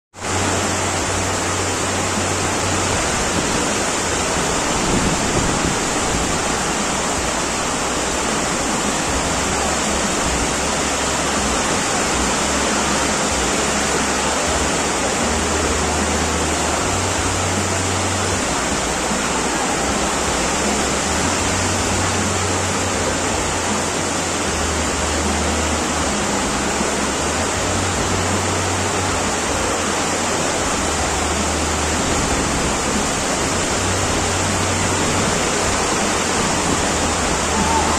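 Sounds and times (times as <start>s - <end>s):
heavy rain pouring: 0.1s - 37.9s.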